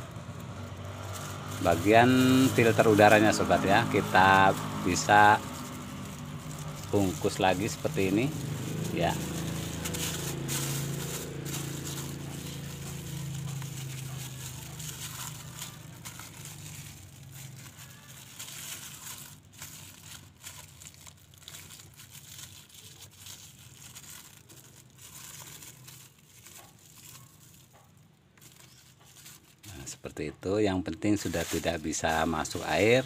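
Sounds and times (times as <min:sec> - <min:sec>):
plastic bag crinkling: 0:00.0 - 0:29.9, 0:31.0 - 0:33.0.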